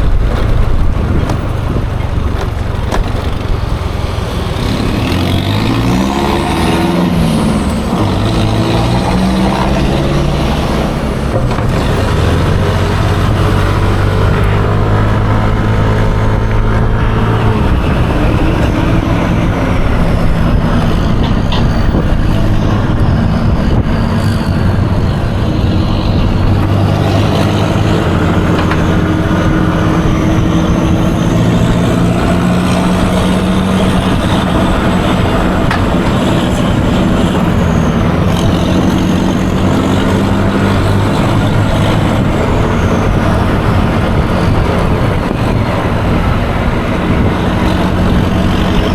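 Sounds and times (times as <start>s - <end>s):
road and wind noise: 0.0s - 48.9s
scooter engine running: 0.0s - 48.9s.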